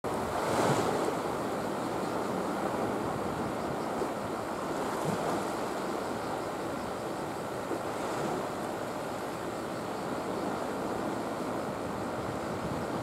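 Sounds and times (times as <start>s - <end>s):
seawater washing along breakwater: 0.0s - 13.0s.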